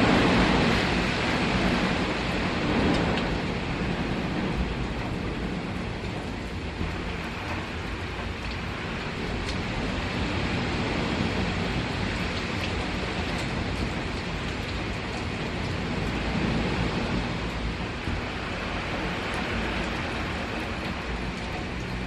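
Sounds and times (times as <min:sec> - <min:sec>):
heavy rain: 0:00.0 - 0:22.0
wind: 0:00.0 - 0:22.0.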